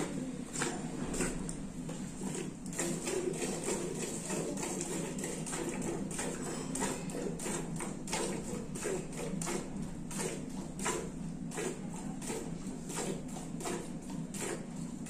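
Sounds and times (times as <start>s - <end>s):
milk squirting into steel bucket: 0.6s - 15.0s.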